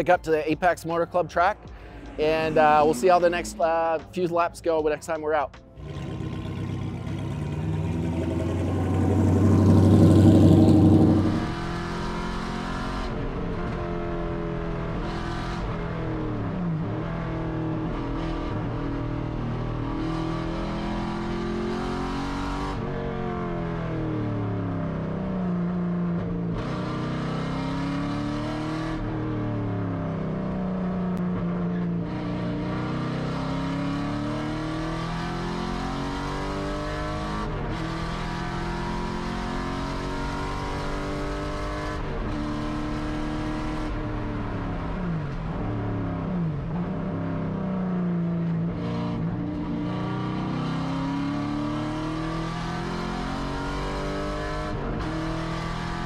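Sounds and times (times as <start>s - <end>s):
race car engine revving: 5.8s - 24.7s, 26.5s - 56.0s.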